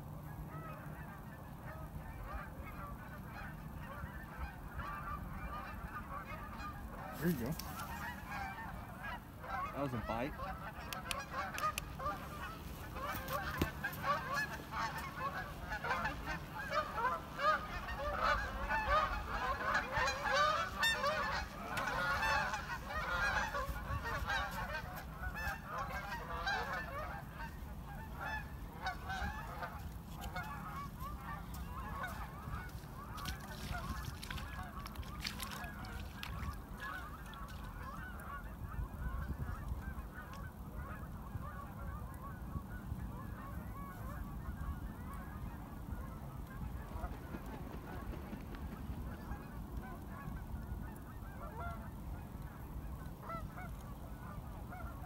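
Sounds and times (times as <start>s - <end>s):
geese honking: 0.1s - 55.0s.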